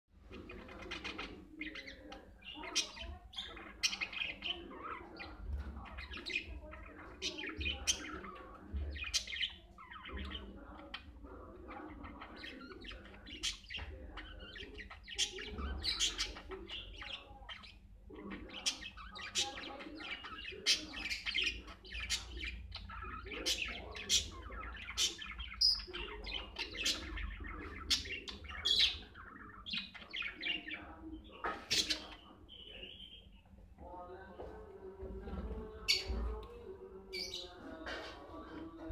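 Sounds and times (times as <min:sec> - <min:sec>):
budgerigars chirping: 0:00.2 - 0:33.4.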